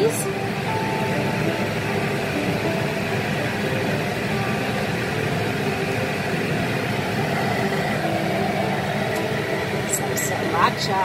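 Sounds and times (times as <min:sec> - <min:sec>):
stove burner rushing and humming: 0:00.0 - 0:11.0.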